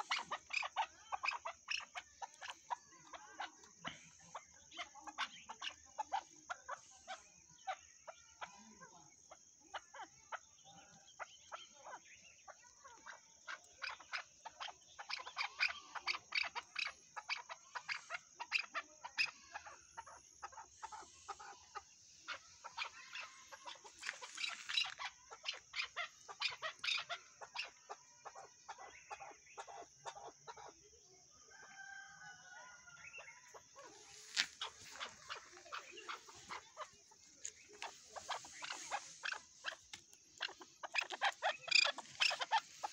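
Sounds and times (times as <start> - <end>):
partridge chuck calls: 0.0 - 31.1, 32.9 - 42.9.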